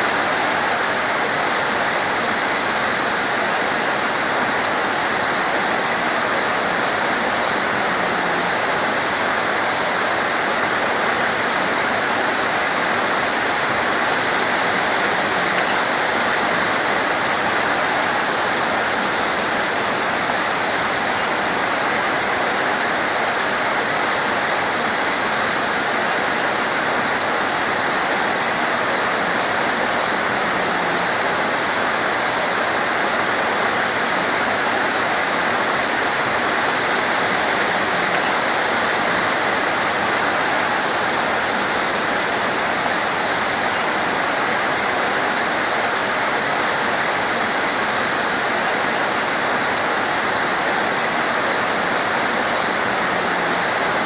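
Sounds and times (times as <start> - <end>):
torrential rain: 0.0 - 54.0.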